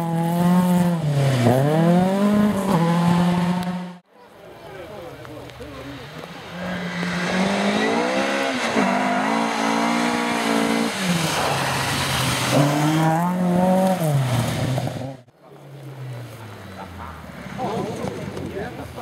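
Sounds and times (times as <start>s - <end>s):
rally car engine revving: 0.0s - 4.0s, 6.0s - 19.0s.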